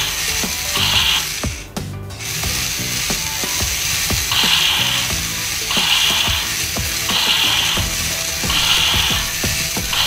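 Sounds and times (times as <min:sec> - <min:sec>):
small plastic gears clattering: 0:00.0 - 0:10.0.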